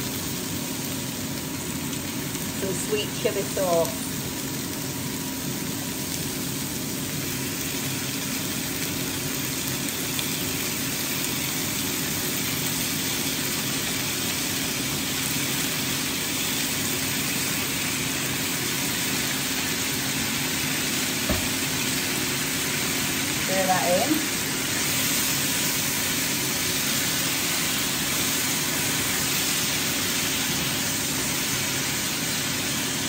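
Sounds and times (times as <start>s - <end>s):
air fryer fan whirring: 0.0s - 33.0s
food sizzling in a frying pan: 0.0s - 33.0s.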